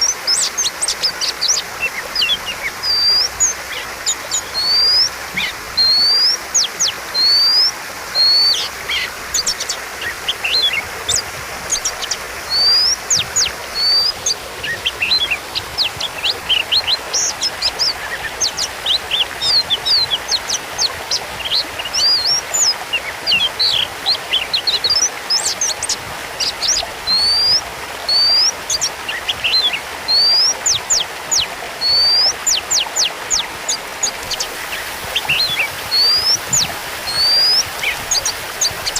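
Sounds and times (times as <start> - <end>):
bird chattering: 0.0 - 22.7, 23.3 - 38.9
bird singing whistled notes: 0.0 - 38.9.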